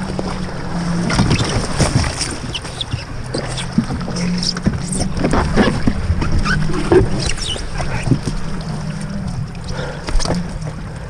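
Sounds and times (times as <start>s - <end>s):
boat motor hum: 0.0s - 11.0s
water splashing against hull: 0.0s - 11.0s.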